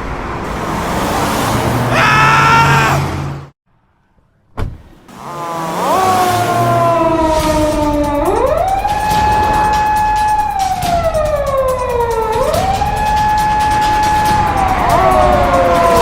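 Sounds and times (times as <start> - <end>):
police siren wailing: 0.5 - 3.1, 5.1 - 16.0.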